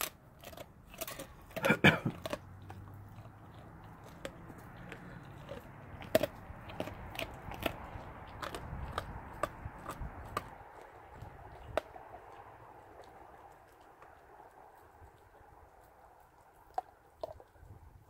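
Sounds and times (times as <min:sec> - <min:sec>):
dog crunching bone: 0:00.0 - 0:17.8.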